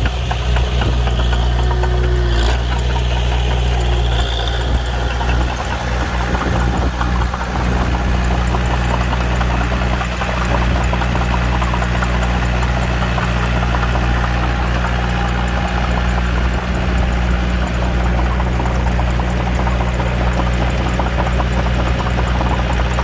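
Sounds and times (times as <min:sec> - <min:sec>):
bulldozer diesel engine running: 0:00.0 - 0:23.0
clicks and rattles: 0:00.0 - 0:23.0.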